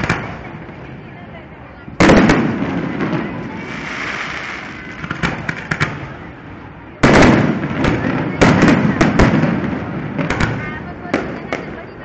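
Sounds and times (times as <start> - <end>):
firework crackling pops: 0.0 - 0.8, 2.0 - 6.3, 7.0 - 11.9
firework bangs: 0.0 - 1.1, 2.0 - 12.0.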